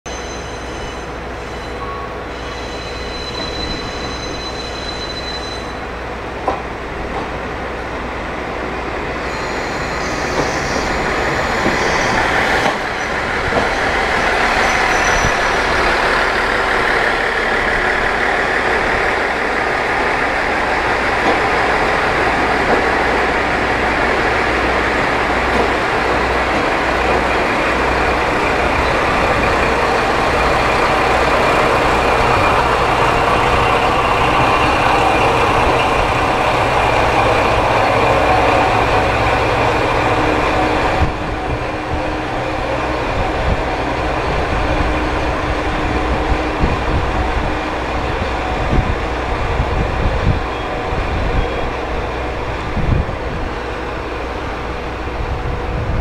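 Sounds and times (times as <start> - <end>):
train wheels rolling on rails: 0.1 - 56.0.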